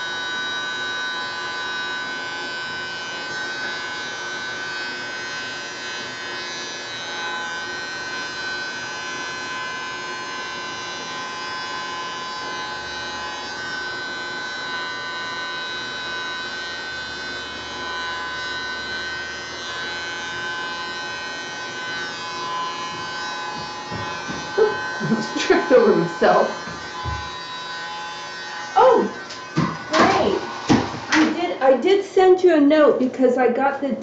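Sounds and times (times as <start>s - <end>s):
small electric motor whining: 0.0s - 32.0s.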